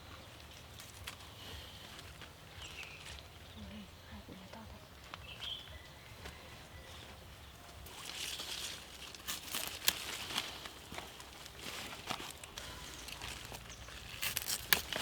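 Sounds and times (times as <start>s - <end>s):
plants rustling and crackling: 0.0s - 15.0s.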